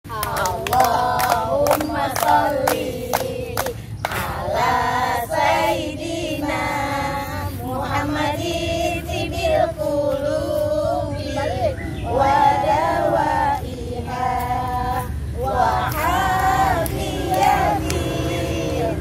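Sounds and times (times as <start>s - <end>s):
group of voices singing: 0.1s - 19.0s.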